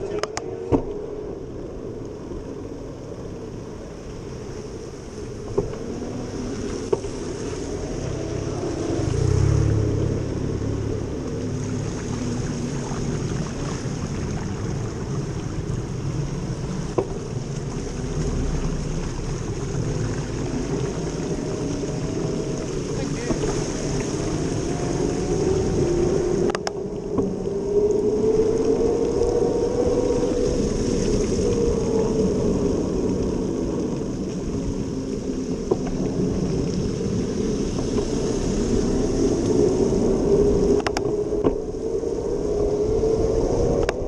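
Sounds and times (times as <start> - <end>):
low rumble with hiss: 0.0 - 44.0.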